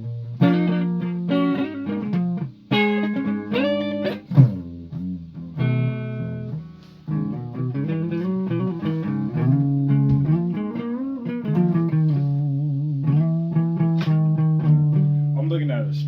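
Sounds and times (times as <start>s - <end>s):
guitar slow melody with bent notes: 0.0s - 16.0s.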